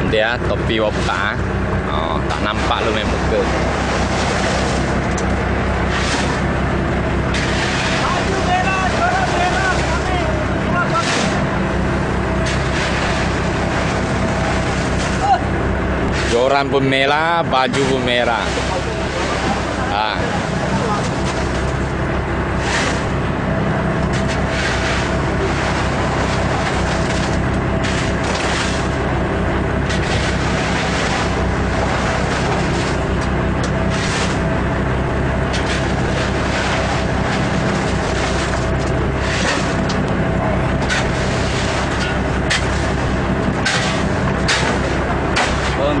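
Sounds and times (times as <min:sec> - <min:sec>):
waves: 0:00.0 - 0:23.2, 0:24.2 - 0:34.6, 0:35.2 - 0:46.0
boat engine humming: 0:00.0 - 0:46.0
wind: 0:00.0 - 0:46.0.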